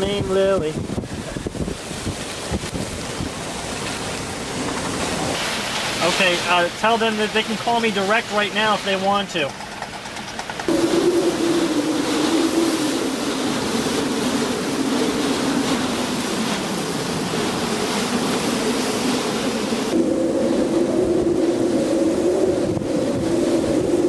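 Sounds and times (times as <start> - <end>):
driving rain: 0.0 - 24.0
hurricane-force wind howling: 0.0 - 24.0.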